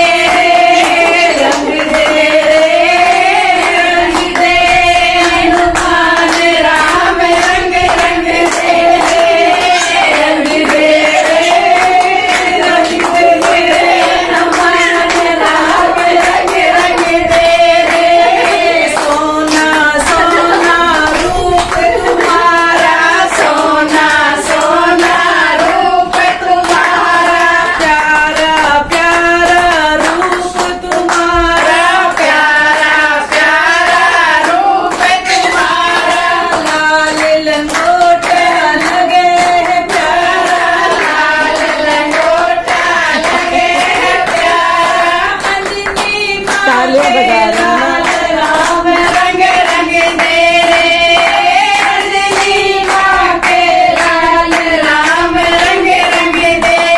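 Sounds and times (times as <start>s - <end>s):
hand clapping in time: 0.0s - 56.9s
women singing devotional song: 0.0s - 56.9s.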